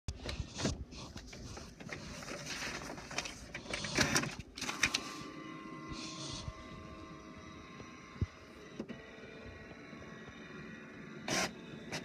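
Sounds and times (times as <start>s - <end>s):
inkjet printer printing: 0.2s - 12.0s.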